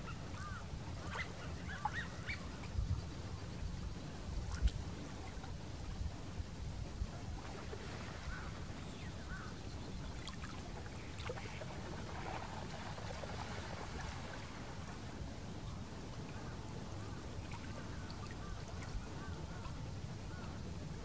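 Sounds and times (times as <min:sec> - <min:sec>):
faint waterbird calls: 0:00.0 - 0:05.6, 0:07.0 - 0:21.0
low wind rumble: 0:00.0 - 0:21.0
water lapping: 0:00.0 - 0:21.0.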